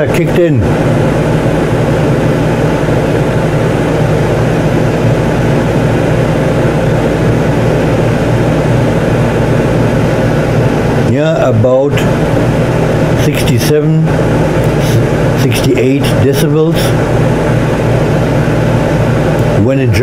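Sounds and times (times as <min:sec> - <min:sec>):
air conditioner fan rushing: 0:00.0 - 0:20.0
compressor low hum: 0:00.0 - 0:20.0.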